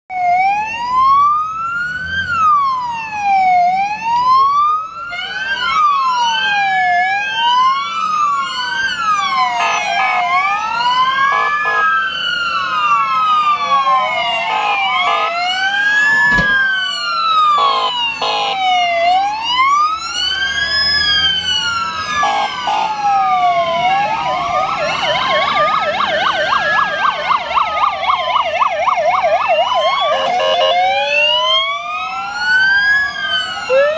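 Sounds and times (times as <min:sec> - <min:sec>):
fast yelping siren: 0:00.1 - 0:33.9
fire engine sirens wailing: 0:00.1 - 0:33.9.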